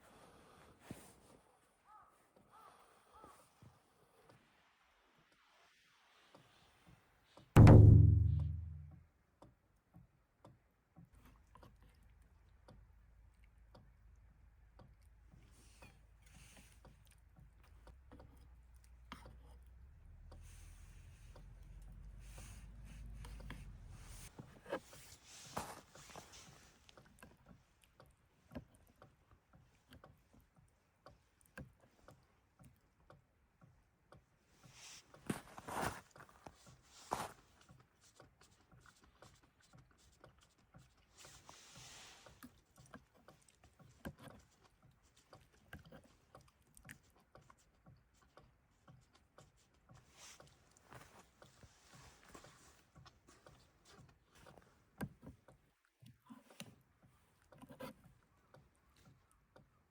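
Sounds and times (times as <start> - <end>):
faint clicks and knocks: 7.4 - 59.9.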